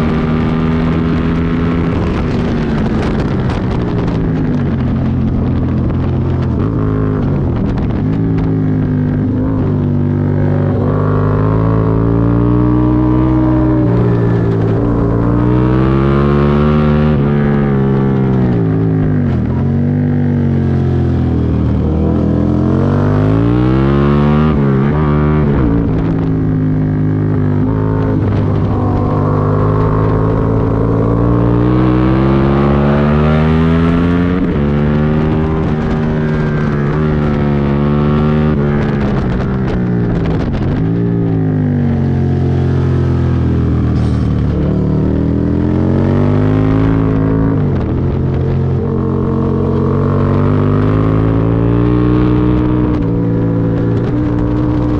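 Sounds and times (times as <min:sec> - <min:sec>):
motorcycle engine revving hard: 0:00.0 - 0:54.9.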